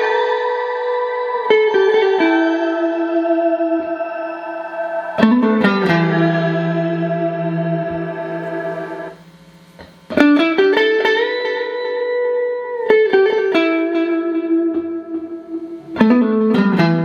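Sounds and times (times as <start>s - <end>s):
clean electric guitar with reverb: 0.0s - 17.0s.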